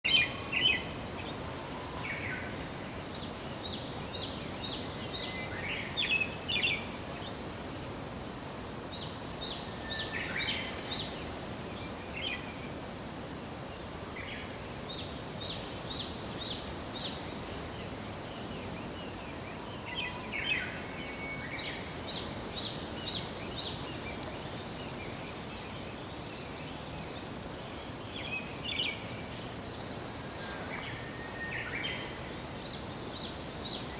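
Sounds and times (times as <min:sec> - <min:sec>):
steady background hiss: 0:00.1 - 0:33.9.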